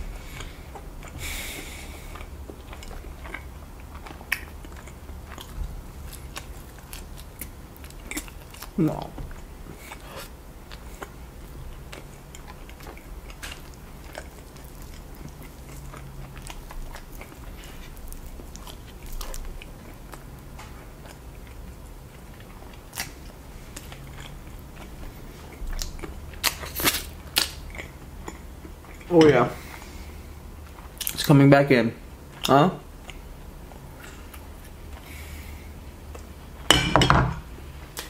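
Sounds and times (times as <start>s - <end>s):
person chewing: 0.0s - 31.2s, 32.3s - 36.4s.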